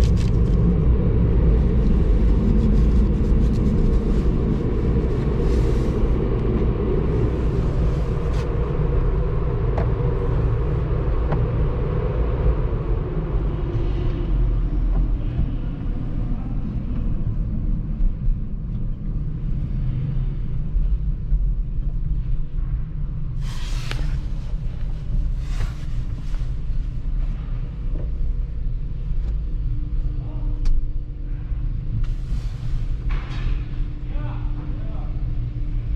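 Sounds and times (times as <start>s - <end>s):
vehicle cabin rumble: 0.0s - 35.9s.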